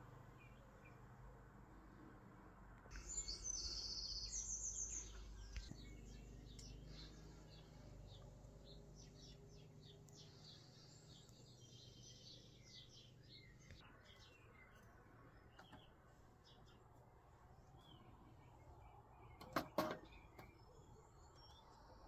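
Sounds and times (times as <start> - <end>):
small birds chirping: 0.0 - 2.1, 2.8 - 22.0.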